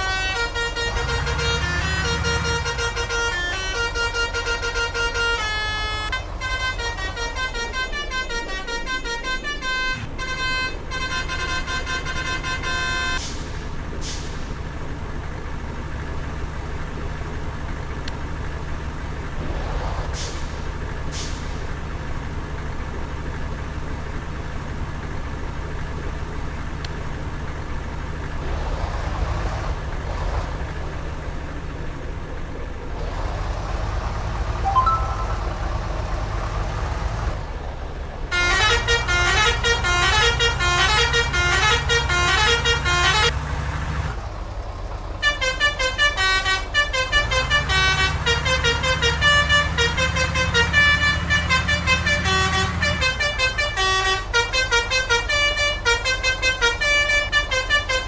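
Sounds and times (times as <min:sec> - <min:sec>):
bus musical horn: 0:00.0 - 0:14.7, 0:20.2 - 0:33.4, 0:34.6 - 0:43.5, 0:45.2 - 0:58.0
heavy vehicle engines rumbling: 0:00.0 - 0:58.0
passing traffic: 0:00.0 - 0:58.0.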